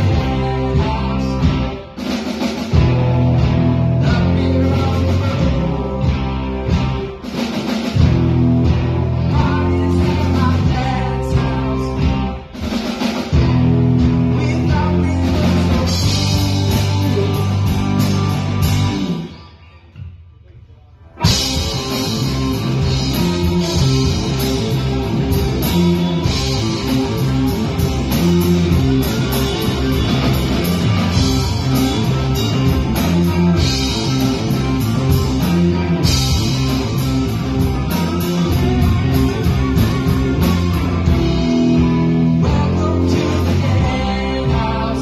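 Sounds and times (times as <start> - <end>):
rock band playing: 0.0 - 45.0.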